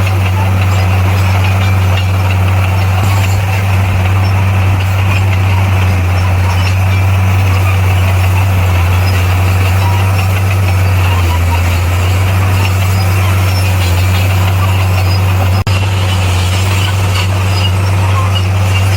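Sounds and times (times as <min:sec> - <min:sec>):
bulldozer diesel engine droning: 0:00.0 - 0:18.9.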